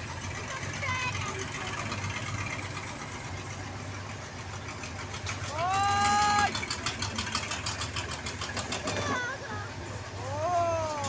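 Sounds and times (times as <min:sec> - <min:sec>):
vehicle engines humming: 0:00.0 - 0:11.0.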